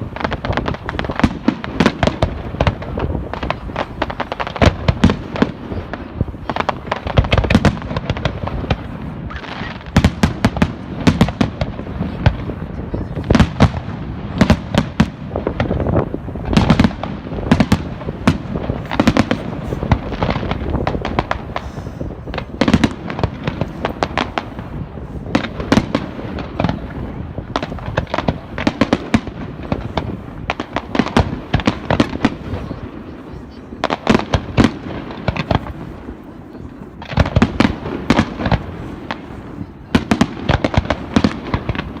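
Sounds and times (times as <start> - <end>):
continuous rumble: 0.0 - 42.0
fireworks bangs and crackles: 0.0 - 42.0.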